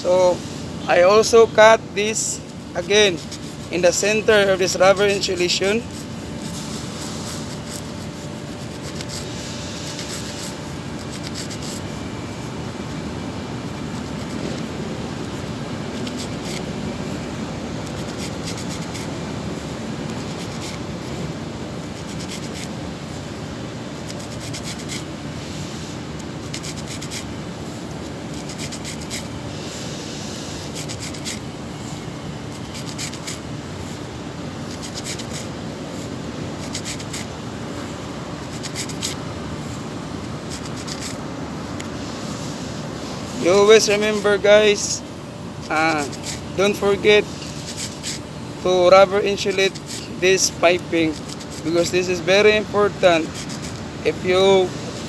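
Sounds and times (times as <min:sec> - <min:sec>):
steady background noise: 0:00.0 - 0:55.0
foam insulation rubbing and scraping: 0:00.2 - 0:42.7, 0:45.6 - 0:54.8.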